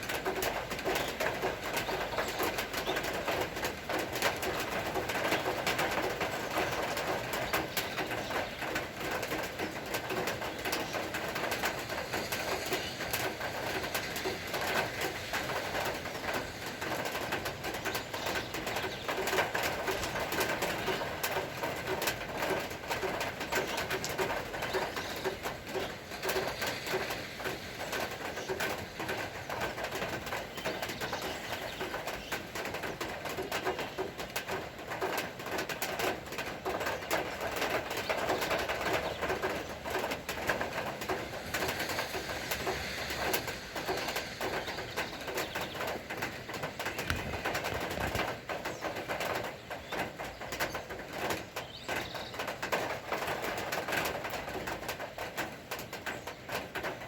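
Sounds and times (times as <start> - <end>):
steady hiss with ticks: 0.0 - 57.0.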